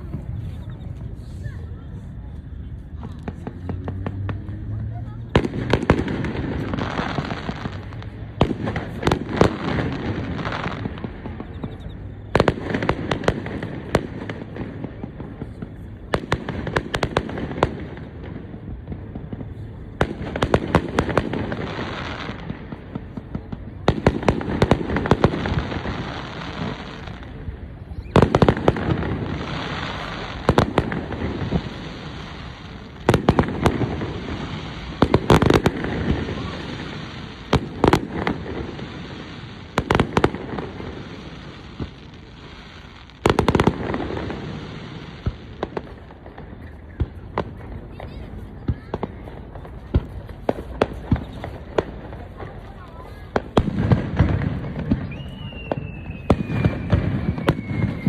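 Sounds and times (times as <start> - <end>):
firework bangs and crackle: 0.0 - 58.0.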